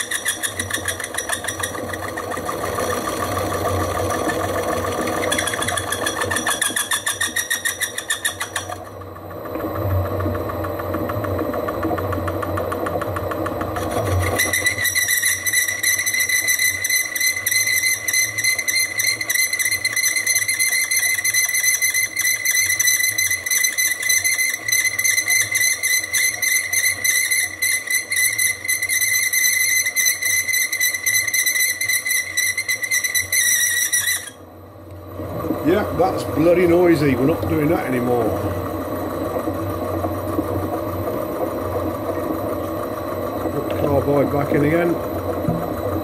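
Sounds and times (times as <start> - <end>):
lathe running: 0.0 - 46.0.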